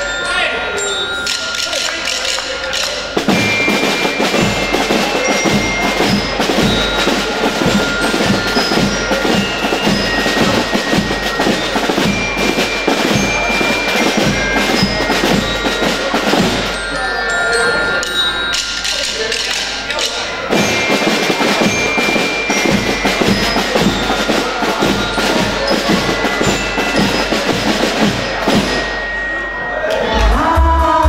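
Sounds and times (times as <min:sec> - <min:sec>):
bell-like mallet percussion: 0:00.0 - 0:31.0
snare drums in fast rhythm: 0:01.3 - 0:17.1, 0:18.0 - 0:29.3.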